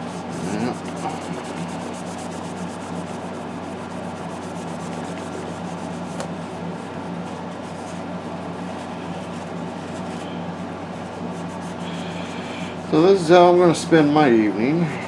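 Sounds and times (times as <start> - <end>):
brush scrubbing plastic: 0.0 - 8.1, 8.7 - 10.3, 10.9 - 13.4
low steady hum: 0.0 - 15.0.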